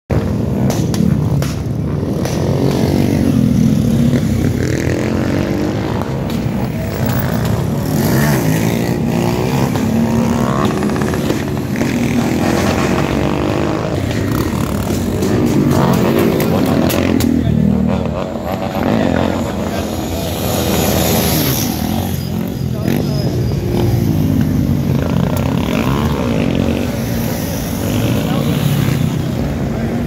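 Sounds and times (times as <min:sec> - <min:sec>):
motorcycles revving past: 0:00.2 - 0:30.0.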